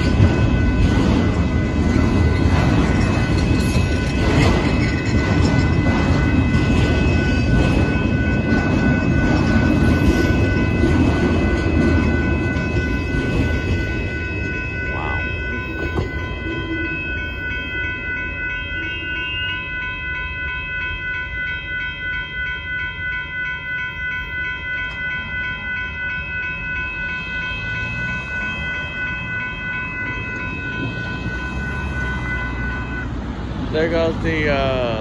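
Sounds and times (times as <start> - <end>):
crossing warning bell ringing: 0.0 - 35.0
freight train rumbling and clattering: 0.0 - 35.0.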